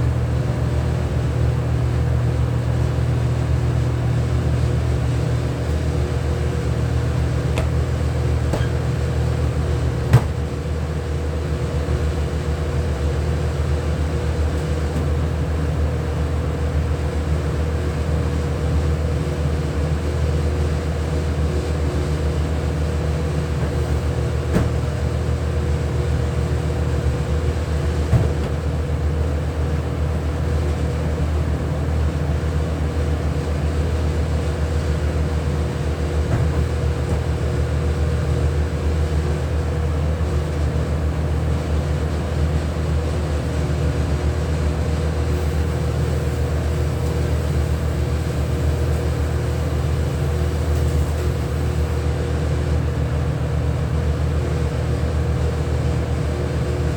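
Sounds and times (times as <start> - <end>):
machinery humming: 0.0 - 56.9.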